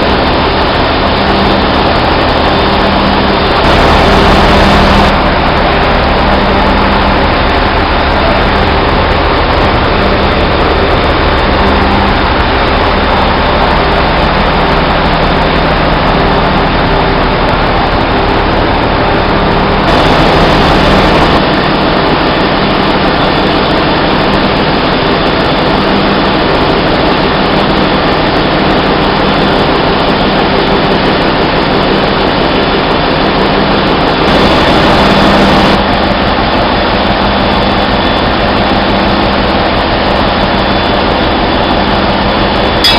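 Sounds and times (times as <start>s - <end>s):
heavy machinery droning: 0.0s - 42.9s.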